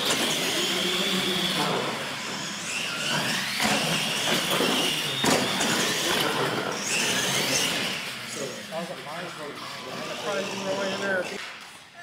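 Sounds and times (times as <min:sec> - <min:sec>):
electric toy truck motors whining: 0:00.0 - 0:11.4.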